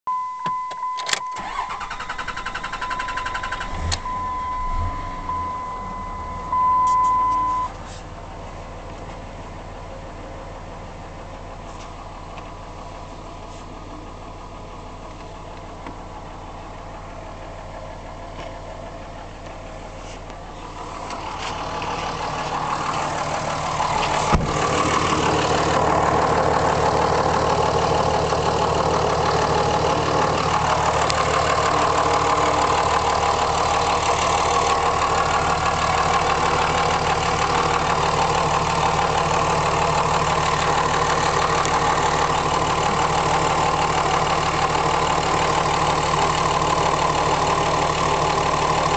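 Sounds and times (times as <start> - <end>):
diesel engine idling: 1.1 - 48.9.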